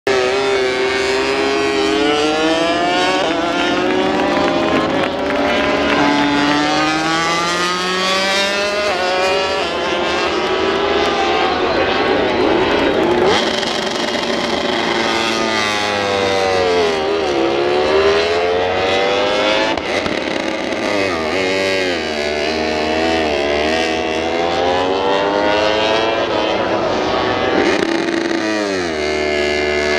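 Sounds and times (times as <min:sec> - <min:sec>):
racing motorcycles revving: 0:00.1 - 0:29.9.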